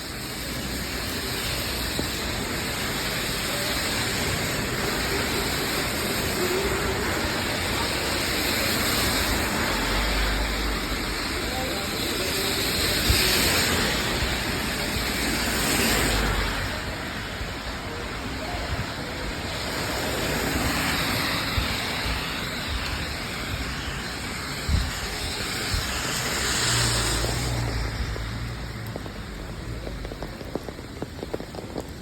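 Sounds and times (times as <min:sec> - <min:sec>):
rain on wet street: 0:00.0 - 0:32.0
vehicles passing: 0:00.0 - 0:32.0.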